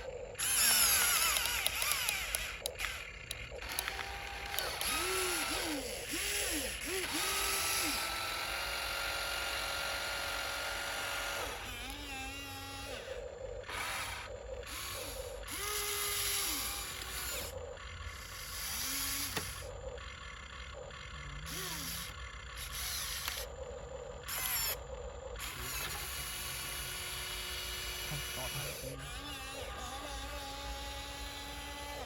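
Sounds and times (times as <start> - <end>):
toy truck electric motors whining: 0.0 - 32.0.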